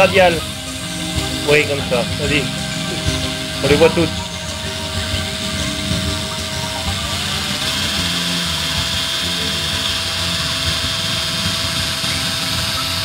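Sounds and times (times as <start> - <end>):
model engine whine: 0.0 - 13.0.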